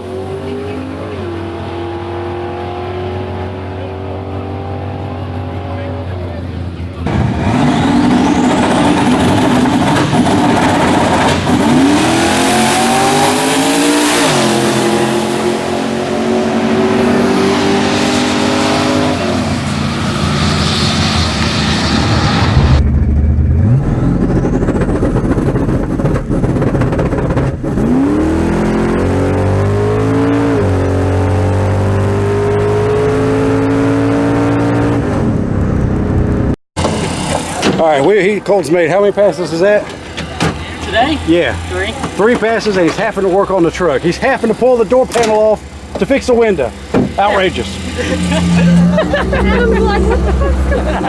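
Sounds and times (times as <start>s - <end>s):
race car accelerating: 0.0s - 51.0s.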